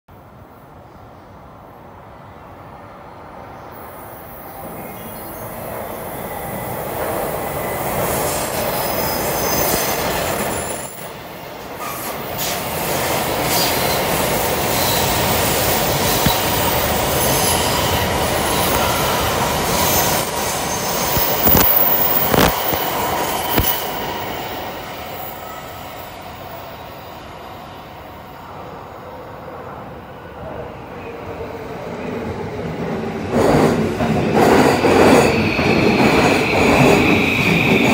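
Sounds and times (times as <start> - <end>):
trains passing overhead: 0.1 - 37.9.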